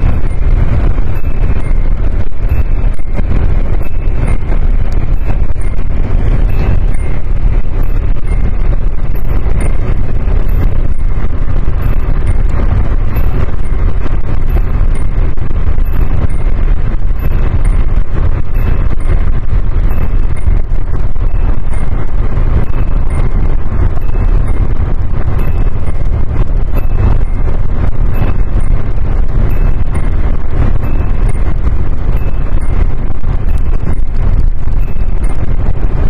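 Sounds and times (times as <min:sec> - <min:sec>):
two-tone speed warning chime: 0:00.0 - 0:36.0
wind and road noise: 0:00.0 - 0:36.0.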